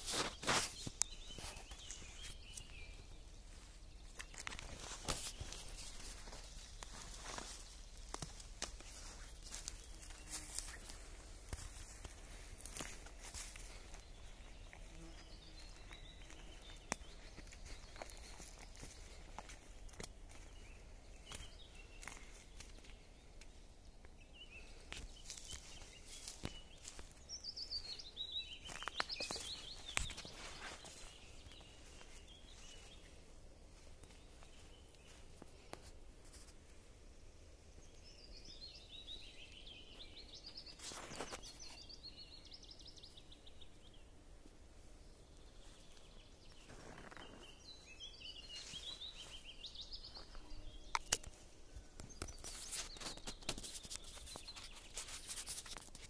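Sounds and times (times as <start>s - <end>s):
footsteps on forest floor: 0.0s - 23.7s, 24.6s - 36.7s, 37.8s - 43.9s, 45.3s - 56.0s
songbird singing: 0.0s - 56.0s.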